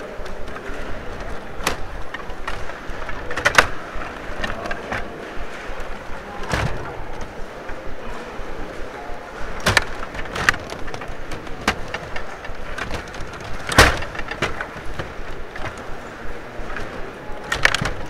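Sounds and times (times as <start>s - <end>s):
plastic players clattering: 0.0s - 7.9s, 8.8s - 18.0s.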